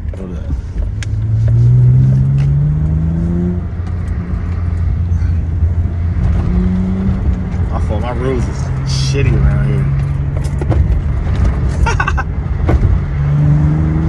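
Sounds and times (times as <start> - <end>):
car exhaust under acceleration: 0.0 - 14.0.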